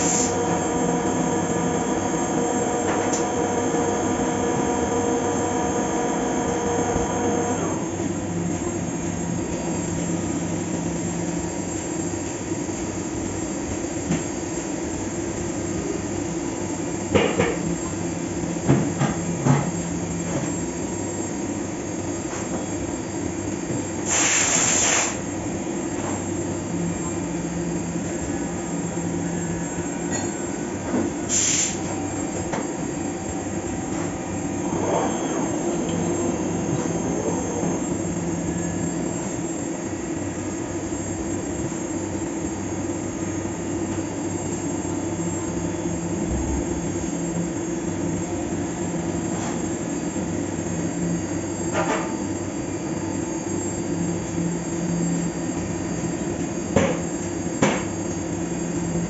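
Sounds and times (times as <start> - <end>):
milling machine humming: 0.0 - 59.0.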